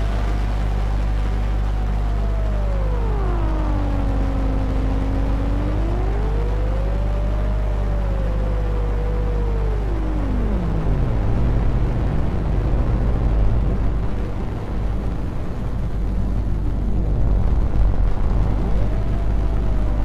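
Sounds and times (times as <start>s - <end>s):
low electronic drone: 0.0s - 20.0s.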